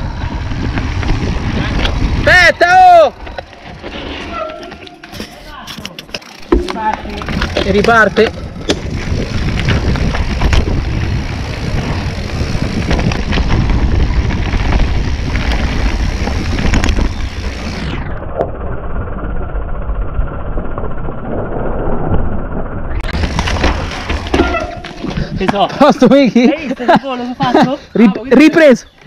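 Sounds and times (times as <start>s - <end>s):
wind buffeting camera: 0.0s - 26.1s
mountain bike rattling: 0.0s - 29.0s.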